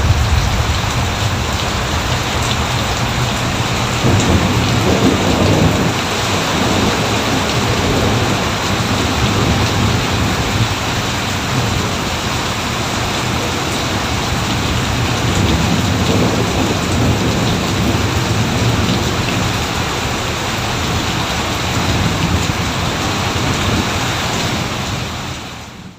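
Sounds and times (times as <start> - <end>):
low rolling thunder: 0.0 - 25.4
heavy rain: 0.0 - 25.9.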